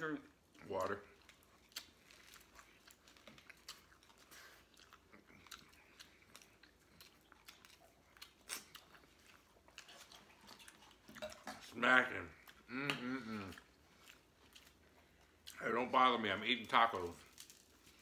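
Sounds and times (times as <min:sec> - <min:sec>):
chewing crunchy tacos: 0:00.0 - 0:18.0.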